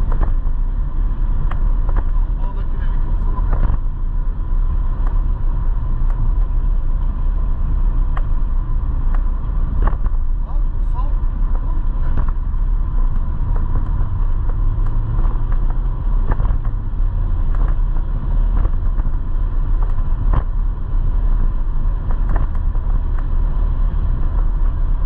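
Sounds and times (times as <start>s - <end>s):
steady whine: 0.0s - 25.0s
wind rumble on microphone: 0.0s - 25.0s.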